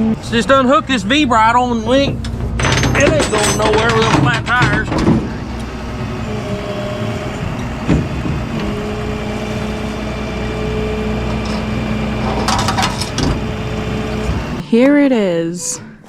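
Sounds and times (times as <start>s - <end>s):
vehicle engine idling: 0.0s - 14.6s.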